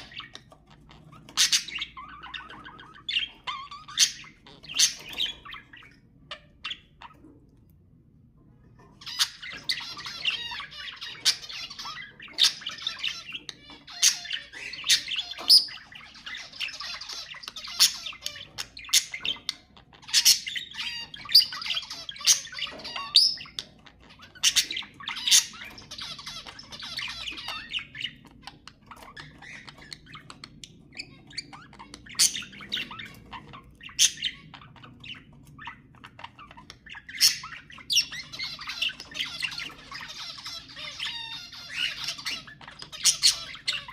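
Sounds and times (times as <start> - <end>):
sharp bird chirps and squawks: 0.0 - 7.6, 8.6 - 43.9
budgerigars chattering and warbling: 0.0 - 43.9.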